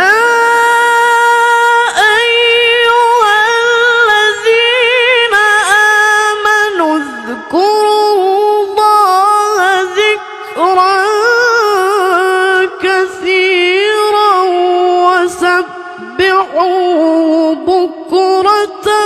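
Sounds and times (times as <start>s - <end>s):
person chanting melodic recitation: 0.0s - 19.0s.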